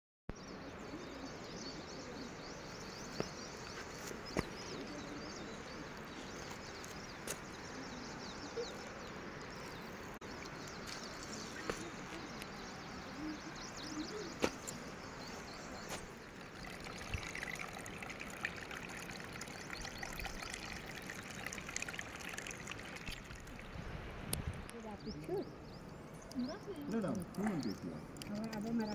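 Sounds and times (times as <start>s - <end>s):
stream trickling over stones: 2.4s - 28.9s.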